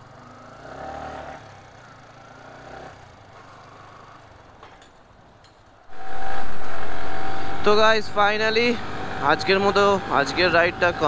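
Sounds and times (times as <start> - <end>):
faint engine running: 0.0 - 4.6, 5.9 - 11.0.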